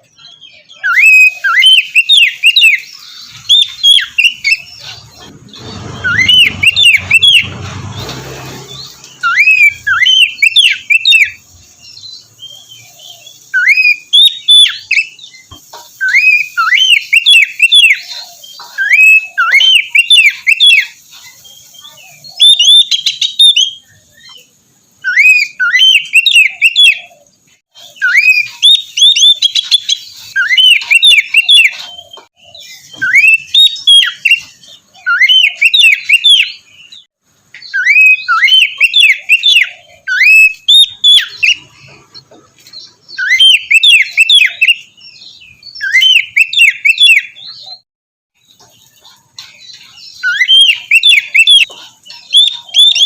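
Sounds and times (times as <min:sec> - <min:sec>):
magpie-robin singing: 0:00.0 - 0:47.8, 0:48.4 - 0:53.0.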